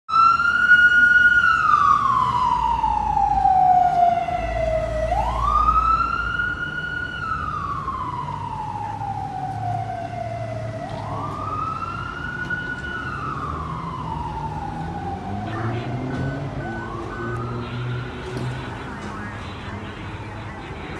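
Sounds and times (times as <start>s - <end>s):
fire truck siren wailing: 0.1s - 20.9s.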